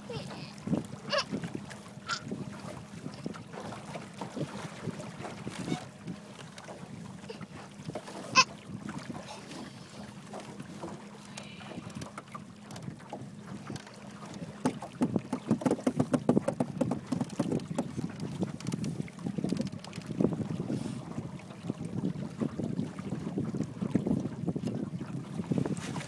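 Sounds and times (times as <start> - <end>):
wind buffeting microphone: 0.0 - 10.0, 14.5 - 26.0
outboard motor humming: 0.0 - 26.0.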